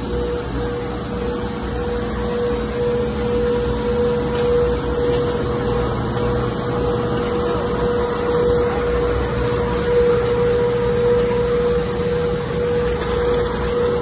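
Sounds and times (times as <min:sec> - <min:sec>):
roasting machine droning: 0:00.0 - 0:14.0.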